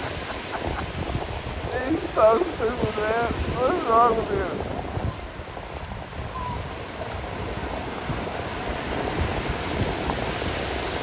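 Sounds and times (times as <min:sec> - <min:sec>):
ocean surf washing in: 0:00.0 - 0:11.0
wind gusting on microphone: 0:00.0 - 0:11.0.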